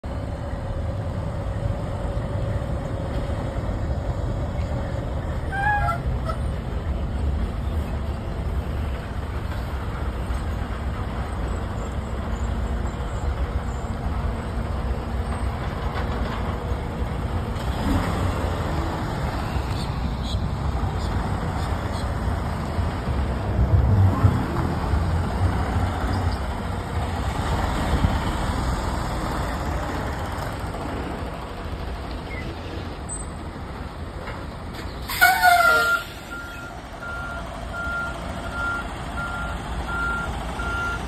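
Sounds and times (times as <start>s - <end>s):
diesel truck engine rumble: 0.0s - 41.0s.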